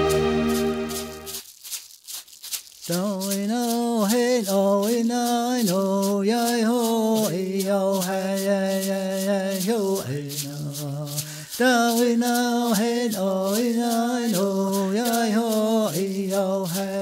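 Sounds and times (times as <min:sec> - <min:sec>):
rattle shaken in a beat: 0:00.0 - 0:17.0
man chanting: 0:02.9 - 0:17.0.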